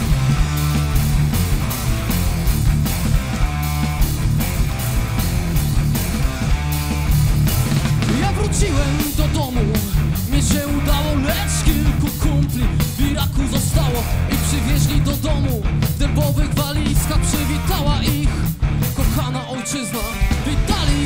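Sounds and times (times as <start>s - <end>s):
bass guitar: 0.0s - 21.0s
drums: 0.0s - 21.0s
electric guitar: 0.0s - 21.0s.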